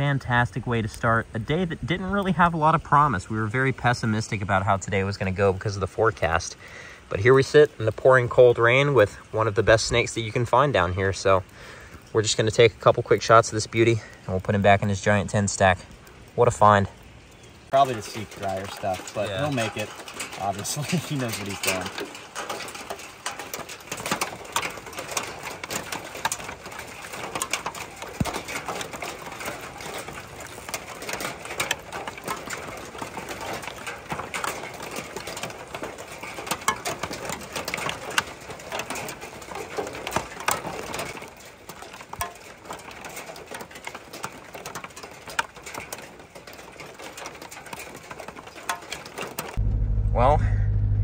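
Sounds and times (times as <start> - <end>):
rain on tin sheets: 0.0 - 51.0.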